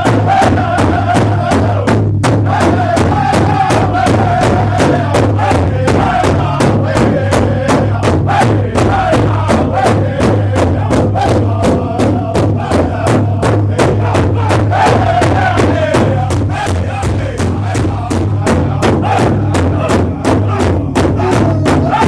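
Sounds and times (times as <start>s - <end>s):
loud music with fast beat: 0.0s - 22.0s
voices chanting or shouting: 0.0s - 22.0s.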